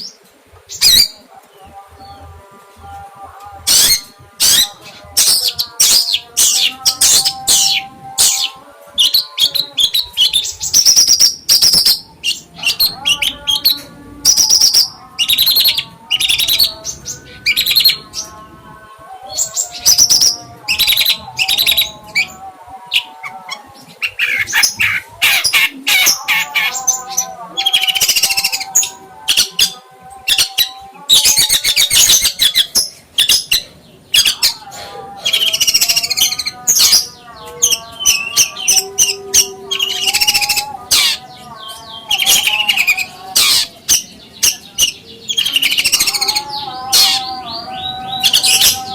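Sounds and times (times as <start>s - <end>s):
songbird chirping and trilling: 0.0s - 48.9s.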